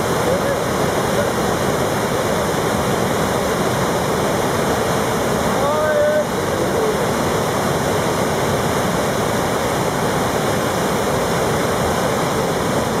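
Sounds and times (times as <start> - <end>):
river rushing through rapids: 0.0 - 13.0.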